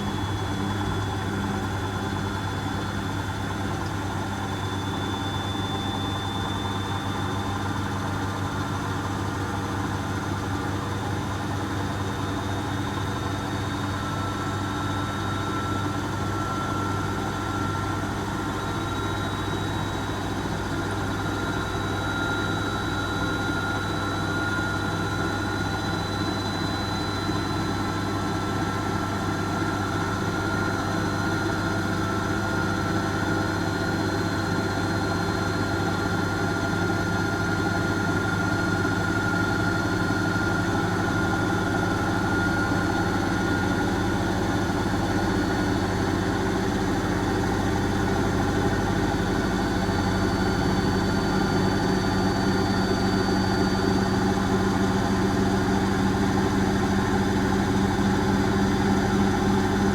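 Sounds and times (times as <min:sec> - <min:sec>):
washing machine spinning with whine: 0:00.0 - 0:59.9.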